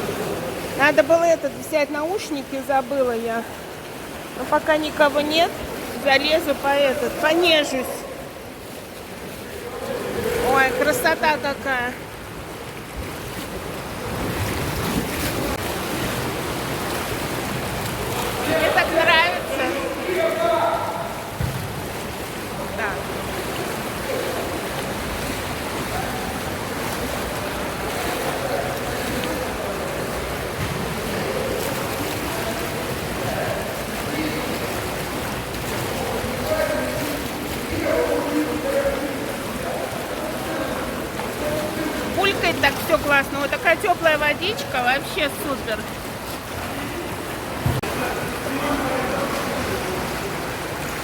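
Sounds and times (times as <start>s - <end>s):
pool jets churning water: 0.0s - 51.0s.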